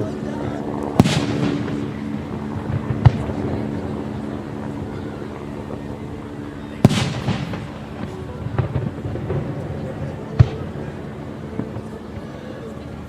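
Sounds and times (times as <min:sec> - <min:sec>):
firework burst with echo: 0:00.0 - 0:12.8
steady background din: 0:00.0 - 0:13.0.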